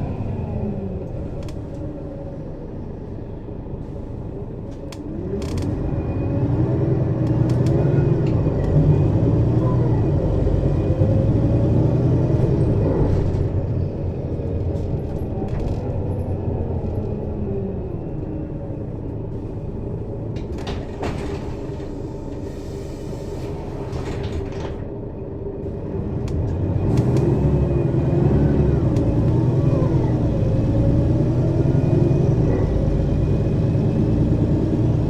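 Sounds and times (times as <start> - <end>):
bus diesel engine: 0.0 - 35.0.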